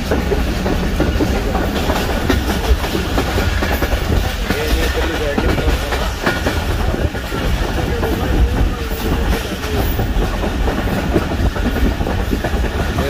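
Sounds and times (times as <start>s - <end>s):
clickety-clack of train wheels: 0.0s - 13.0s
train low rumble: 0.0s - 13.0s.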